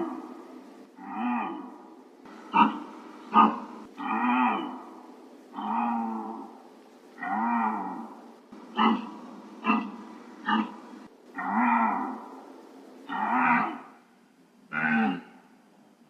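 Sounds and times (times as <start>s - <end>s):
deer calling: 0.0s - 14.1s, 14.7s - 15.5s.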